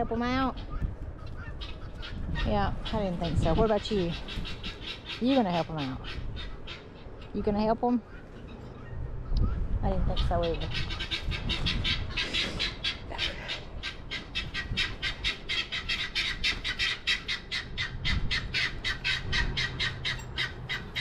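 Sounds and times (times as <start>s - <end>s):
guinea fowl calling: 0.3s - 21.0s.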